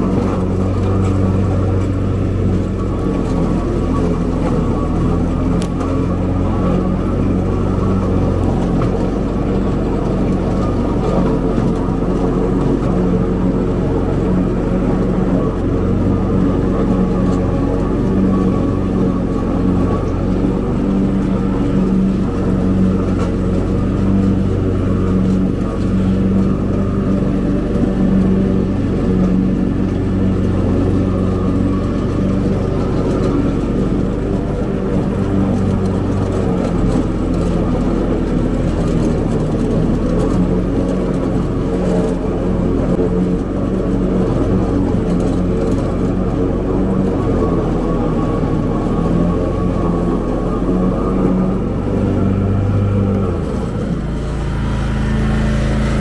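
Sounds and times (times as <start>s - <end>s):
riding mower engine running: 0.0s - 56.0s.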